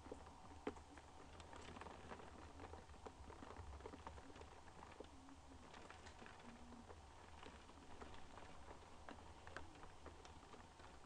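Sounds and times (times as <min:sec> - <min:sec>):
low steady hum: 0:00.0 - 0:11.0
raindrops tapping on a window: 0:00.0 - 0:11.0.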